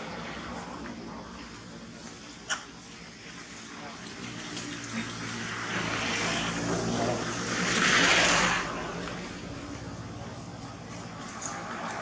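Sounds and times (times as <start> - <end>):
engine passing by: 0.0 - 12.0.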